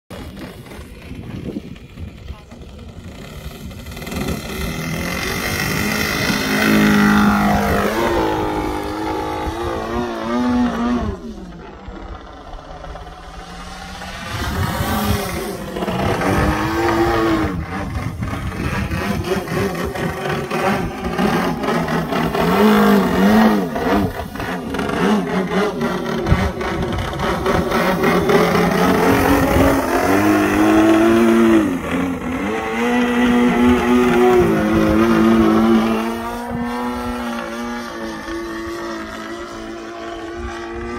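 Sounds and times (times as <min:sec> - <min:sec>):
model plane engine running hard: 0:00.1 - 0:40.9.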